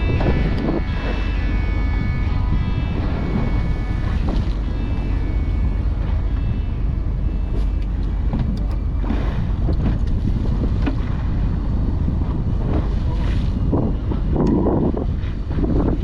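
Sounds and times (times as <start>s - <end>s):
boat engine rumbling: 0.0s - 16.0s
wind buffeting microphone: 0.0s - 16.0s.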